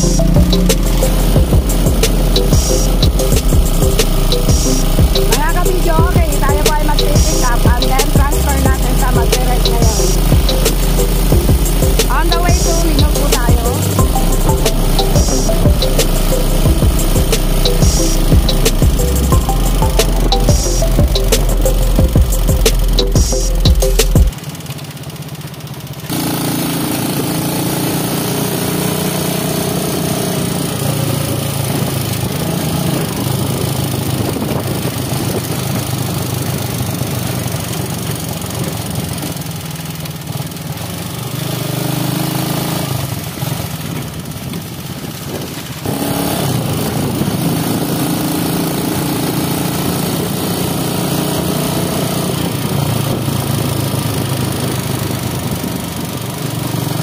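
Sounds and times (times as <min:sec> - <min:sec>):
small motorcycle engine revving: 0:00.0 - 0:57.0.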